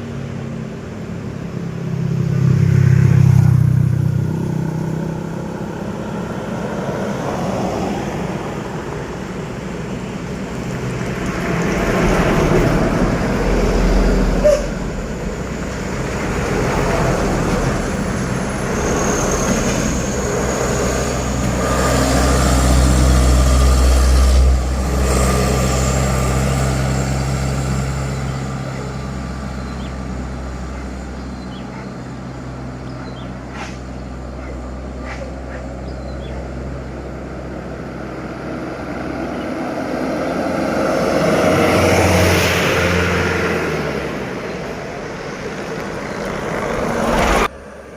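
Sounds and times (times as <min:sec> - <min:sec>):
diesel trucks passing: 0:00.0 - 0:47.9.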